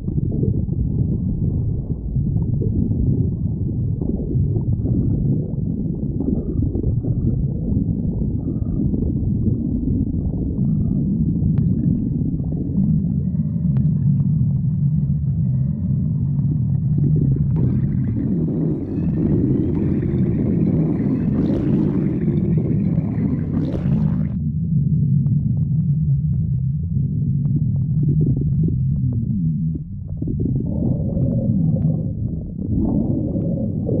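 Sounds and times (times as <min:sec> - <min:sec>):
stomach growling: 0:00.0 - 0:34.0.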